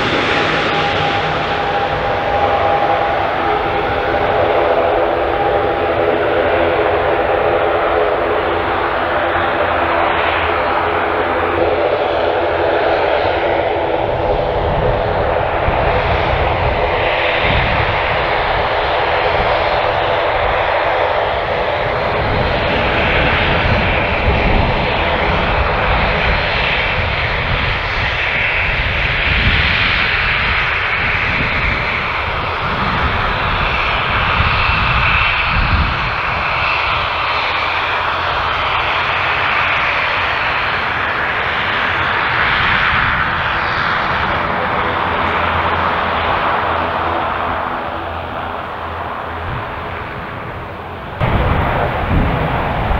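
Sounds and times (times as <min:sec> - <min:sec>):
turboprop engines humming: 0:00.0 - 0:52.9.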